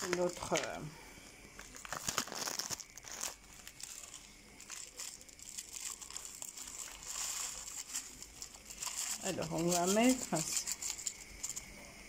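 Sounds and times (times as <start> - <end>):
sachet crinkling and rustling: 0.0 - 0.9, 1.6 - 11.7.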